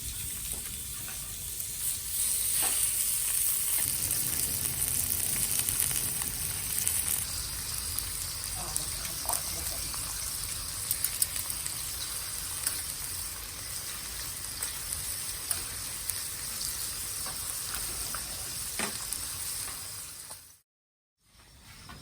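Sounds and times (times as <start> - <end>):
crackles and pops: 0.0 - 20.6
food sizzling on a grill: 0.0 - 20.6.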